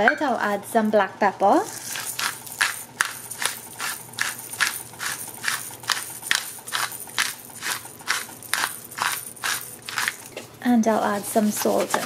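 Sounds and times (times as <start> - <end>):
pepper mill grinding: 1.5 - 12.0.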